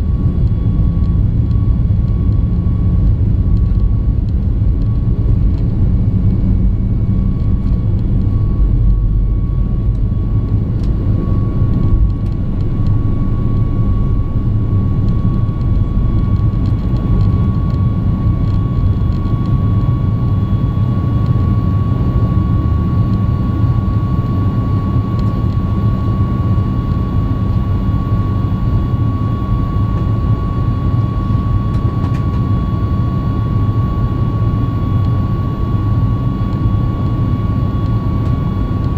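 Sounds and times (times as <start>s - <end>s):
jet engines deep rumble and whine: 0.0s - 38.9s.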